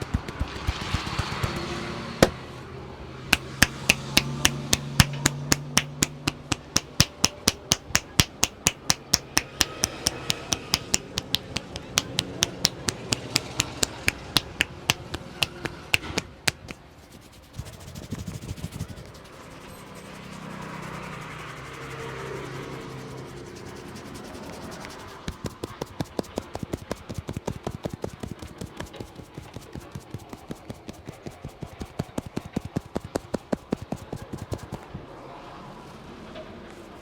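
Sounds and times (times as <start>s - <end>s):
hands slapping head rhythmically: 0.0s - 2.4s, 3.4s - 34.9s
soft rubbing: 3.4s - 35.0s.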